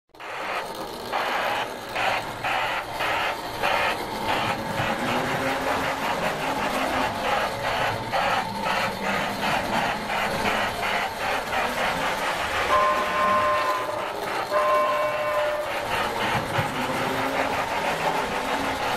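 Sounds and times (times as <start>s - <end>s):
model steam train chuffing: 0.2s - 18.9s
model train motor and wheels: 0.2s - 18.9s.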